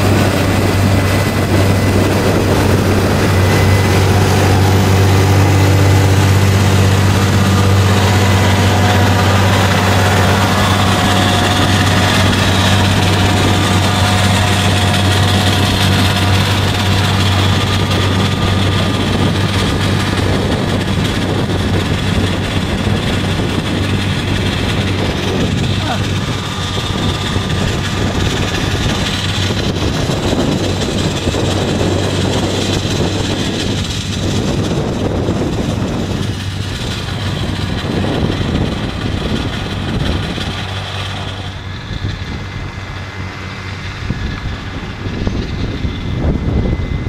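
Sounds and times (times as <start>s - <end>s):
tractor diesel engine under load: 0.0s - 47.0s.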